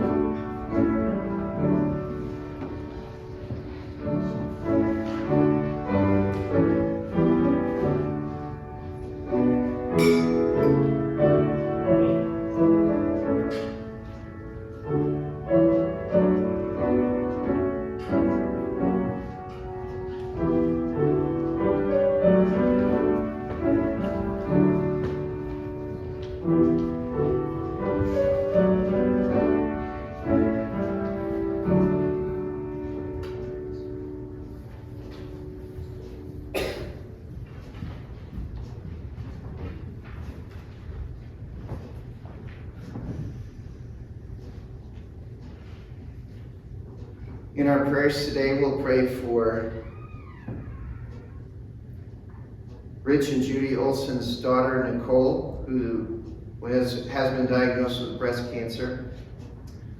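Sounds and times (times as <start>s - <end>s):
solo piano piece: 0.0s - 54.1s.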